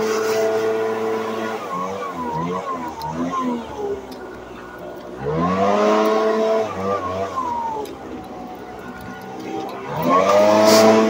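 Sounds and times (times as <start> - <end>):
leaf blower engine revving: 0.0 - 11.0.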